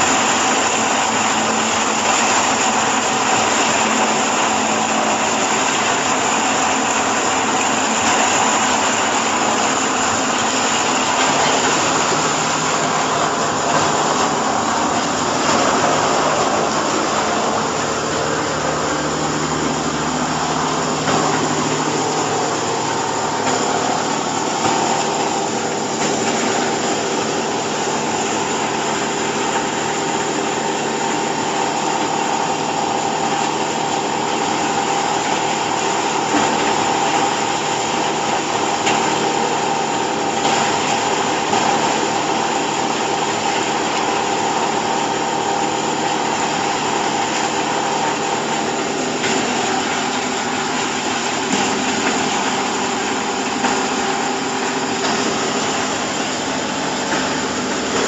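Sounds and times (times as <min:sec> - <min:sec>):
hydraulic pump motor whining: 0:00.0 - 0:58.0.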